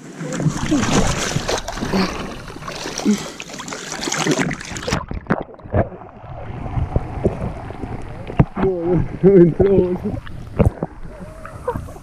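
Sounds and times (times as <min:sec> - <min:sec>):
water sloshing from wading: 0:00.0 - 0:12.0.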